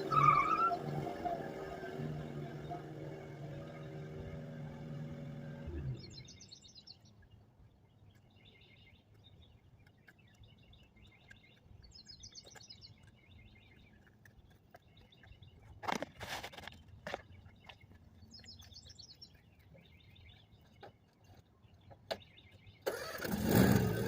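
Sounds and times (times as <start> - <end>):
faint birds chirping: 0.0 - 23.3.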